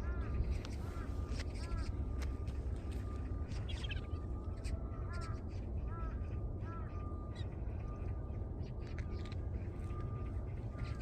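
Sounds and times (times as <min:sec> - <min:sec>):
crows cawing: 0:00.0 - 0:02.3, 0:03.1 - 0:08.2, 0:09.1 - 0:11.0.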